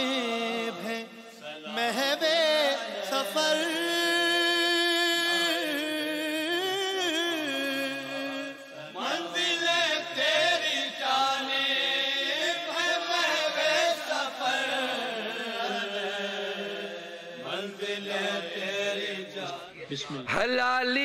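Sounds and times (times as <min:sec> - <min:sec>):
solo voice chanting: 0:00.0 - 0:19.5.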